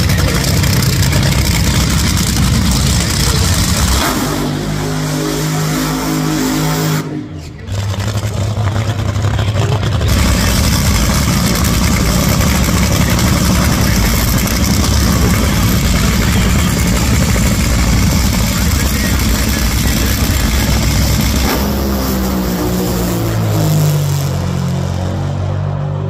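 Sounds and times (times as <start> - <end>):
dragster engine running: 0.0 - 25.1.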